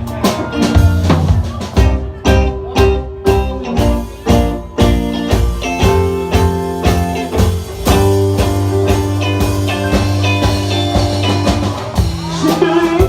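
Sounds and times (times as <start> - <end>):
drum kit steady beat: 0.0 - 13.0
electric guitar phrases: 0.0 - 13.0
held bass notes: 0.0 - 13.0.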